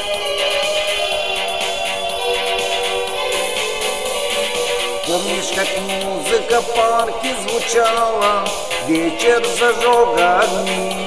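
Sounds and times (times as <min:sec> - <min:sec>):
instrumental pop music: 0:00.0 - 0:11.0.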